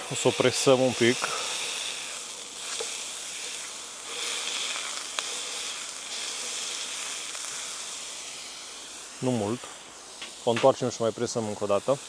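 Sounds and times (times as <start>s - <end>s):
burger patties sizzling on griddle: 0.0s - 12.0s.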